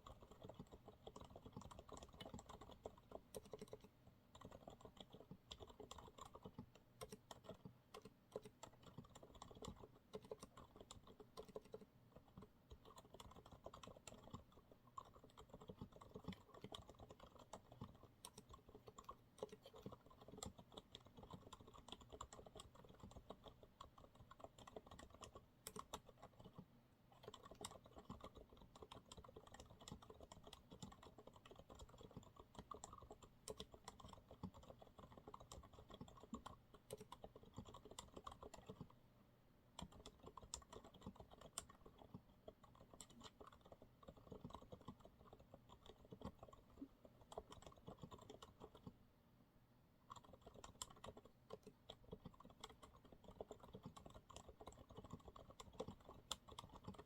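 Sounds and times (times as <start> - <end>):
quiet keyboard typing: 0.0 - 39.1, 39.7 - 49.0, 50.0 - 57.0.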